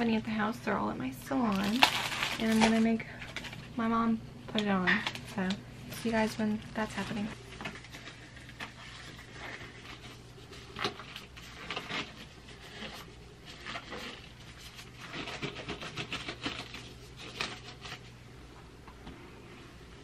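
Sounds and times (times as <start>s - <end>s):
steady low hum: 0.0s - 20.0s
plastic gloves crinkling: 1.0s - 3.9s, 4.5s - 18.3s.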